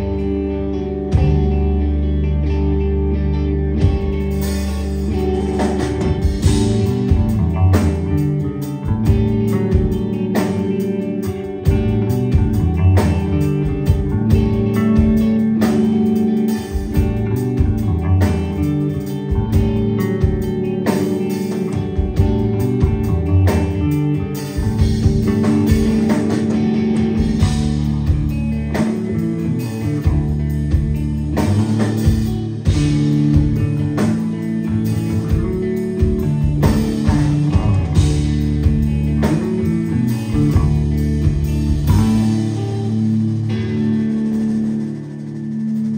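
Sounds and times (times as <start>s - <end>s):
bass guitar: 0.0s - 45.9s
electric guitar: 0.0s - 45.9s
drum kit beat: 3.8s - 45.9s.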